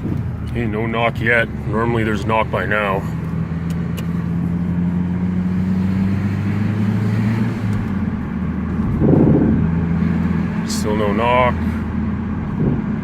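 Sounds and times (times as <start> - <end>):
car engine droning while driving: 0.0 - 13.0.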